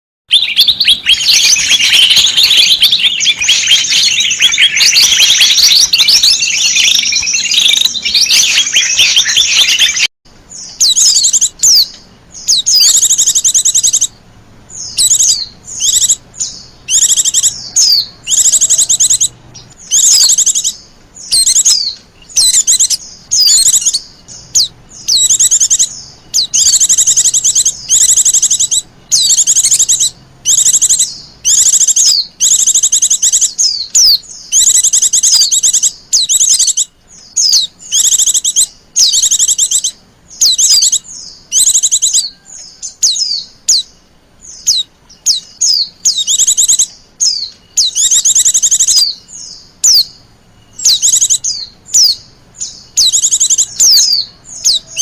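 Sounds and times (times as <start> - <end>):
birds chattering: 0.3 - 55.0
short rapid bird trills: 0.3 - 55.0.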